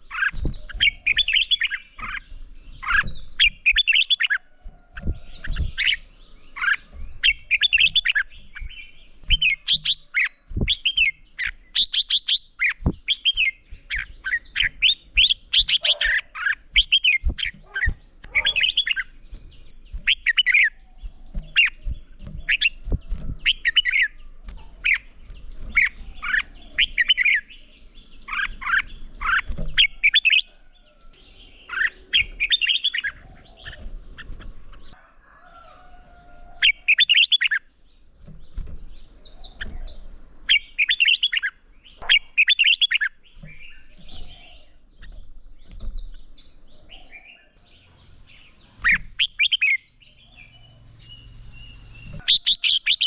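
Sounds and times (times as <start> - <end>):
birds singing chirpy phrases: 0.0 - 53.0.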